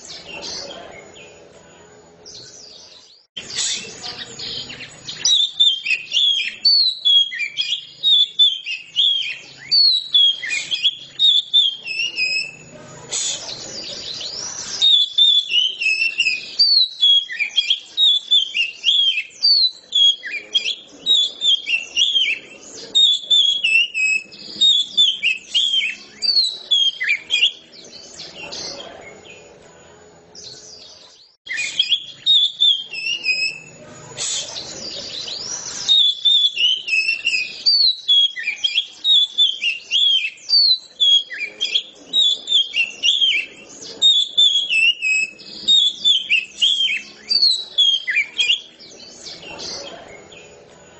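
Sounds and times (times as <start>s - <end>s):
bird singing whistled phrases: 2.3s - 29.5s, 30.4s - 50.6s.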